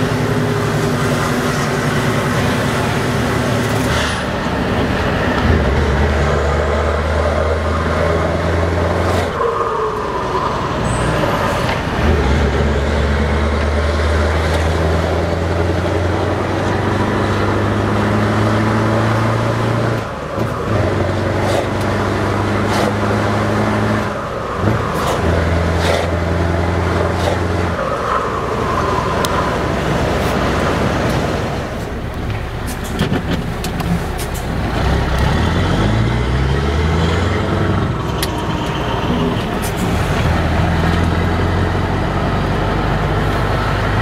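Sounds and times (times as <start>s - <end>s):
diesel truck engine pulling: 0.0s - 44.0s.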